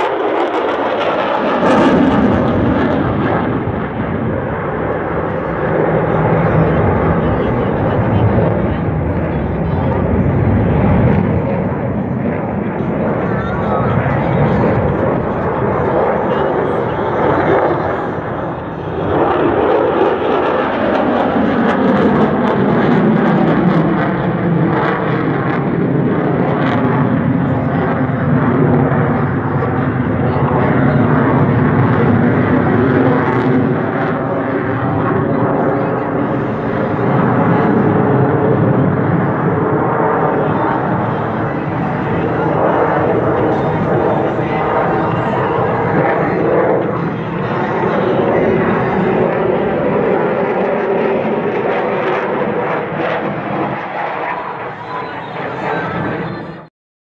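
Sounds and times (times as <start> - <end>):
fighter jet flying past: 0.0 - 56.7.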